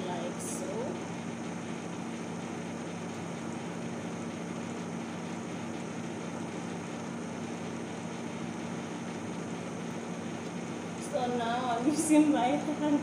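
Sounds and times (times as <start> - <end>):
low machine hum with hiss: 0.0 - 13.0.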